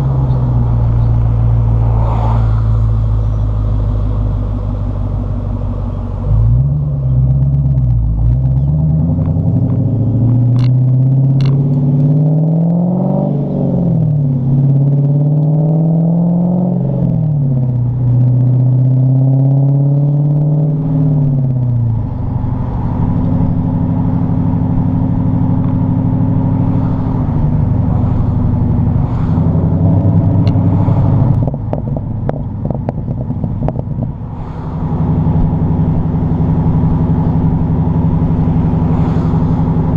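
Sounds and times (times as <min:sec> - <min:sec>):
car engine accelerating: 0:00.0 - 0:39.9
exhaust note: 0:00.0 - 0:39.9.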